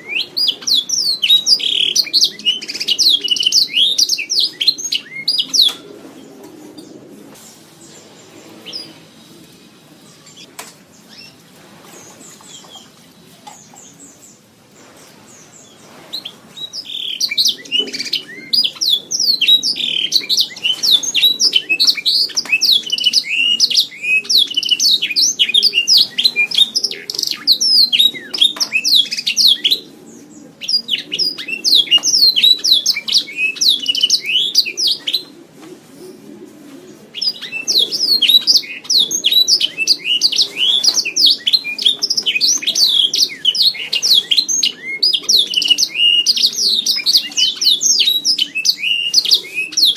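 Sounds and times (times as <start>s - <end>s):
canary singing: 0.0s - 11.4s, 15.3s - 35.4s, 37.0s - 49.9s.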